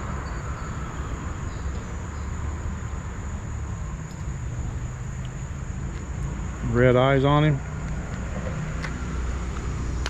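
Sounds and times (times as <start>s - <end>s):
insects droning: 0.0s - 10.0s
low rumbling noise: 0.0s - 10.0s.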